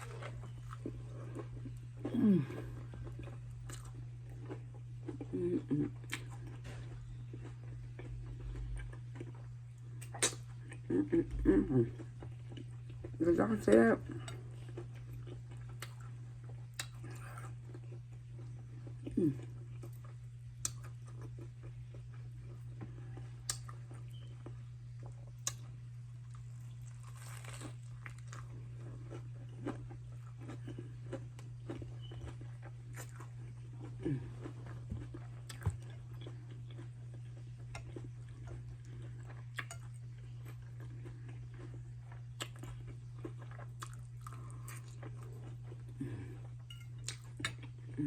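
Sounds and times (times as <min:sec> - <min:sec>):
person chewing food: 0:00.0 - 0:48.0
steady low hum: 0:00.0 - 0:48.0.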